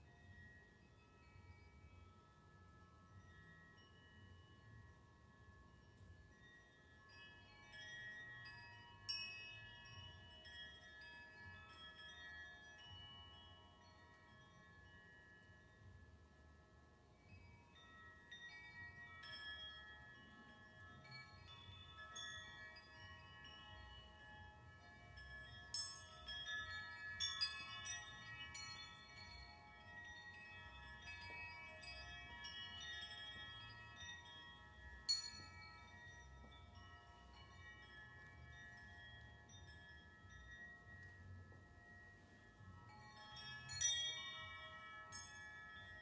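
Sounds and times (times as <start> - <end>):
soft bell-like chamber music: 0.0 - 46.0.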